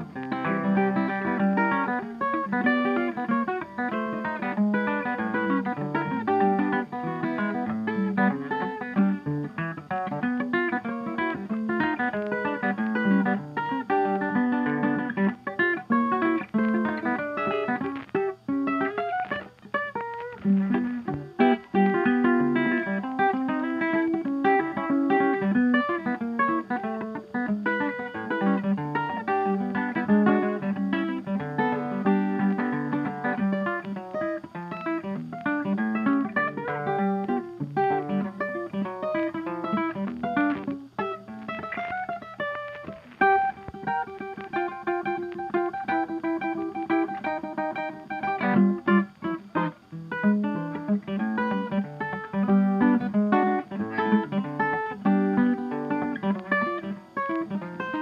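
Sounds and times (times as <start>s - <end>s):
plucked guitar notes: 0.0s - 58.0s.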